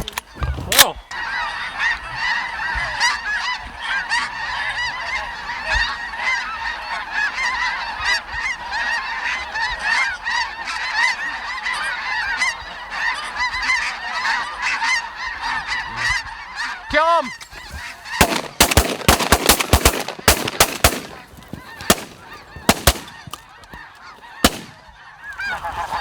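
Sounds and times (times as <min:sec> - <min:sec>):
flock of geese honking: 0:00.0 - 0:26.0.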